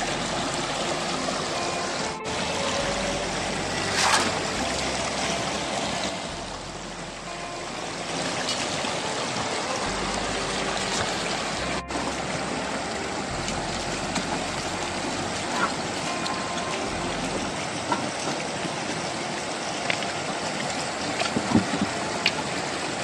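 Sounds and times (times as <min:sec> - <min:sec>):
water rushing through wooden box: 0:00.0 - 0:23.0
water splash: 0:00.0 - 0:23.0.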